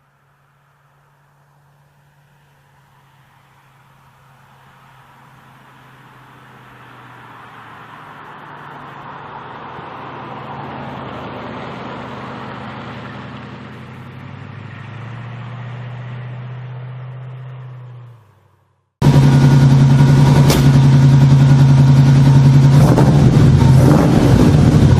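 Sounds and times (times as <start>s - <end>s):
car engine humming: 0.0s - 24.9s.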